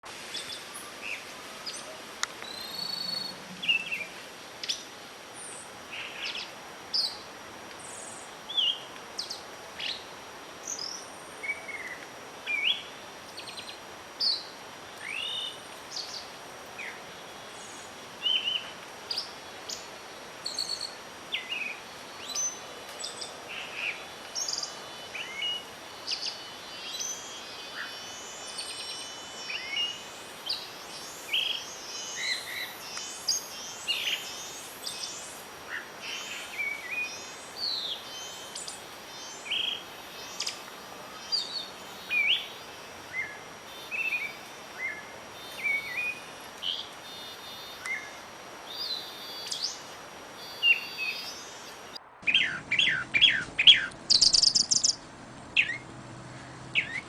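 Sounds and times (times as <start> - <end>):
background hiss: 0.0 - 57.0
songbirds chirping: 0.0 - 57.0.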